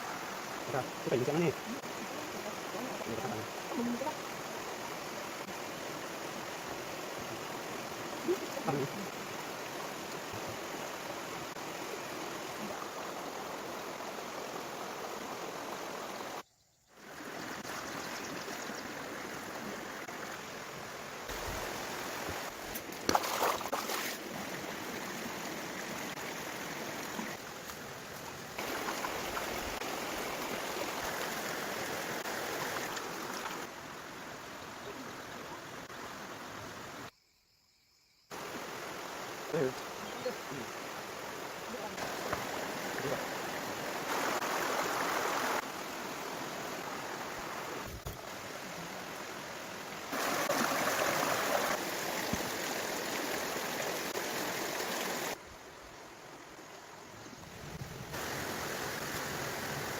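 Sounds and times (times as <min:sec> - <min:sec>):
running water rushing: 0:00.0 - 0:16.4, 0:17.0 - 0:37.1, 0:38.3 - 0:59.9.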